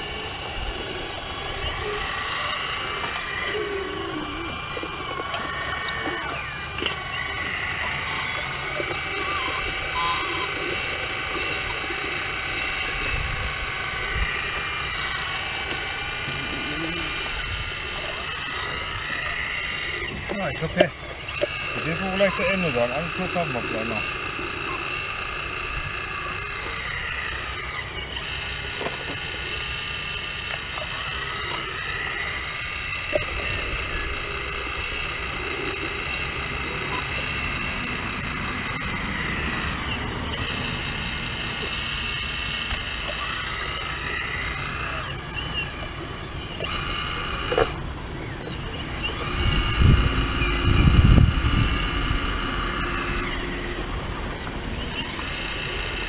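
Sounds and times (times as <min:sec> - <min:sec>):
excavator hydraulic whine: 0:00.0 - 0:56.0.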